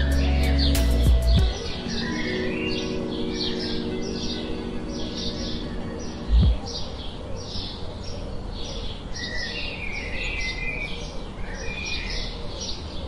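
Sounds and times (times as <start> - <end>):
birds chirping: 0.0 - 13.0
low background noise: 1.5 - 13.0.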